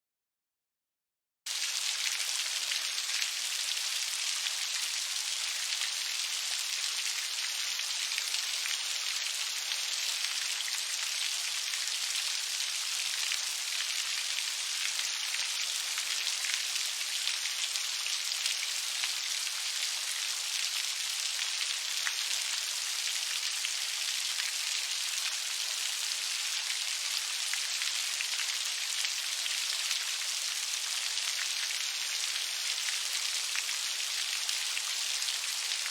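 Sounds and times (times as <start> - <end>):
steady rainfall: 1.5 - 35.9.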